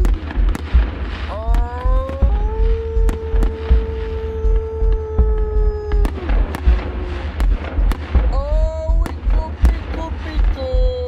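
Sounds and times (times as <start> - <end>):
firework whistling tone: 0.0 - 11.0
fireworks and firecrackers banging: 0.0 - 11.0.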